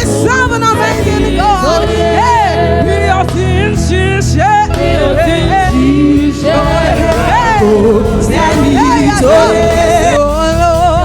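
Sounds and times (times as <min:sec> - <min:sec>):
gospel singing with band: 0:00.0 - 0:11.0.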